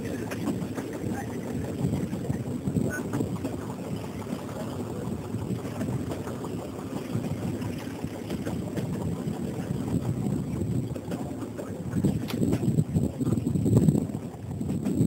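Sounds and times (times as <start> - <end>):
train rumbling on track: 0.0 - 15.0
train wheel clicks: 0.0 - 15.0.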